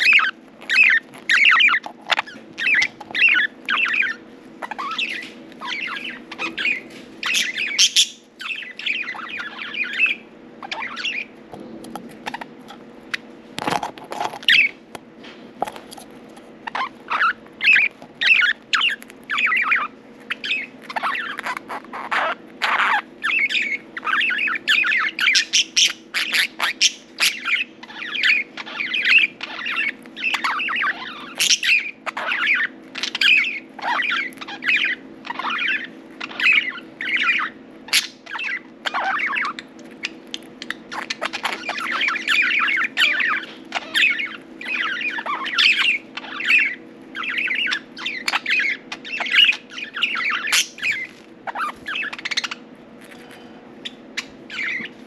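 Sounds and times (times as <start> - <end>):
budgerigars chirping: 0.0 - 11.4, 12.2 - 12.5, 14.4 - 14.8, 16.6 - 53.2, 53.8 - 55.0
steady low hum: 0.0 - 55.0.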